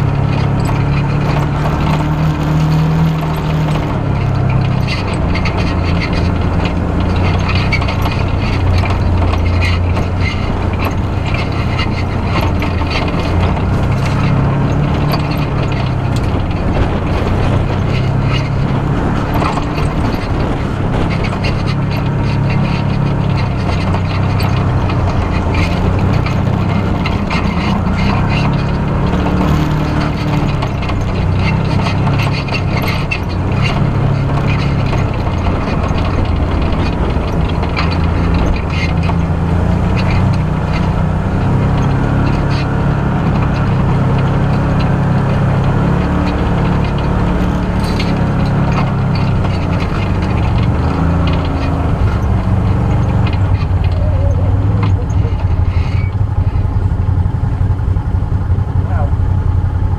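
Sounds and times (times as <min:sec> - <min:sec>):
off-road vehicle engine: 0:00.0 - 0:59.9
vehicle rattling over bumps: 0:00.0 - 0:59.9.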